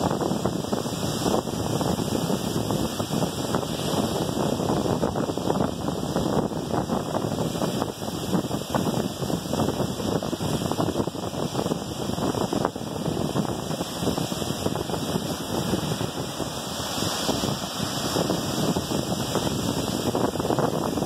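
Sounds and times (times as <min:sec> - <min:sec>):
surf washing: 0:00.0 - 0:21.0
wind buffeting microphone: 0:00.0 - 0:21.0.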